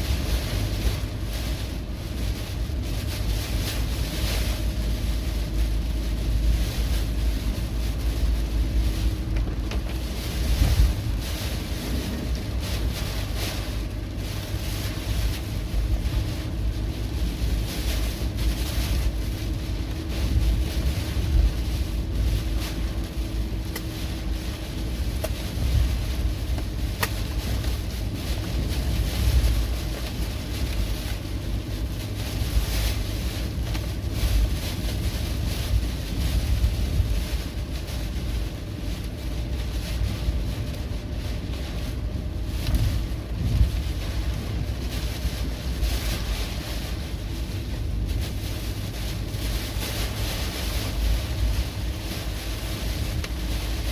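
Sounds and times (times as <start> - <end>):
gusty wind buffeting microphone: 0.0 - 53.9.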